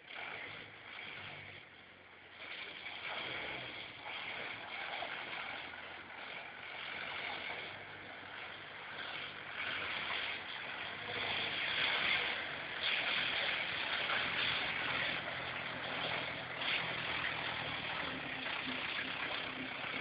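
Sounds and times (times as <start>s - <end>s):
off-road vehicle engine driving: 0.0s - 20.0s.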